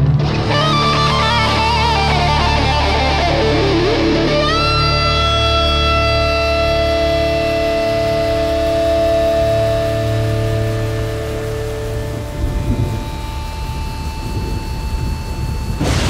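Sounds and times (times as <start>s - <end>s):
bass and drums: 0.0s - 16.0s
lead electric guitar: 0.0s - 16.0s.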